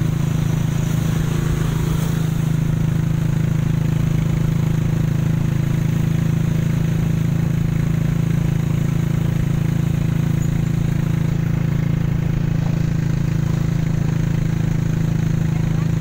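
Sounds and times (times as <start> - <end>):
road and wind noise: 0.0 - 16.0
vehicle engine droning: 0.0 - 16.0.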